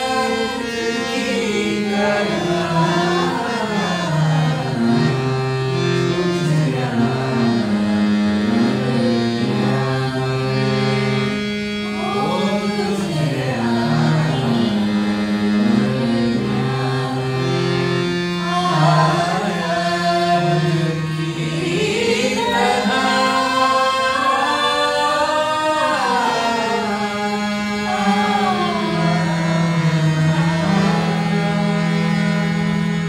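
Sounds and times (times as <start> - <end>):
harmonium chords: 0.0 - 33.0
voices singing slow melody: 0.0 - 33.0.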